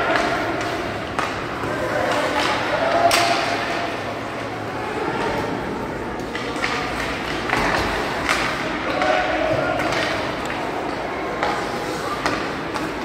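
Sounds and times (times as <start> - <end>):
steady hall din: 0.0 - 13.0.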